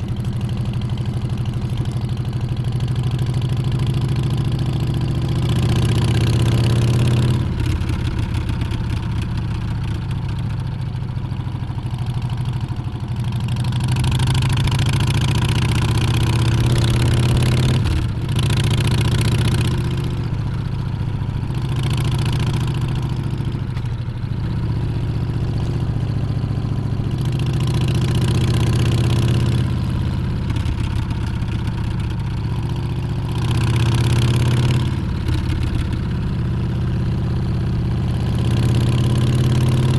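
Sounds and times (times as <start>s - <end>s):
motorcycle engine revving: 0.0s - 10.7s, 11.8s - 39.9s.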